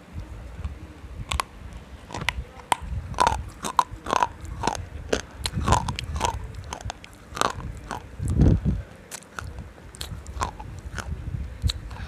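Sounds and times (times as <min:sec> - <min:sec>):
person chewing crunchy food: 0:01.3 - 0:01.5, 0:02.1 - 0:12.0.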